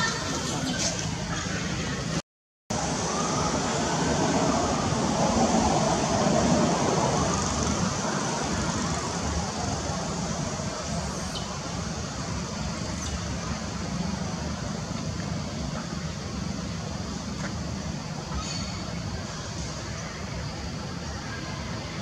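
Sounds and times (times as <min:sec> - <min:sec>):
background rumble and hiss: 0:02.8 - 0:22.0.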